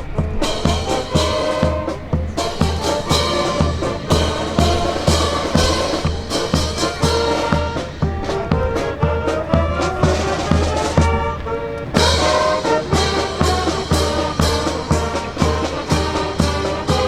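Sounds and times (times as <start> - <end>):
brass band playing: 0.0 - 17.0
steady drum beat: 0.0 - 17.0.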